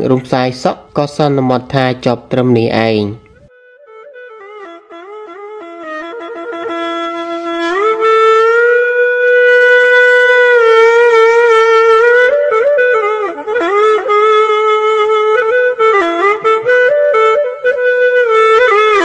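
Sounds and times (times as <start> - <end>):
solo woodwind melody: 3.3 - 19.0.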